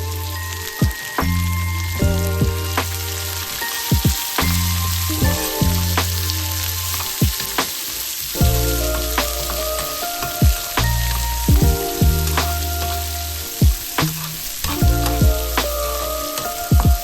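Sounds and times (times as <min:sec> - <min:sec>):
instrumental background music: 0:00.0 - 0:17.0
oil sizzling in a pan: 0:00.0 - 0:17.0.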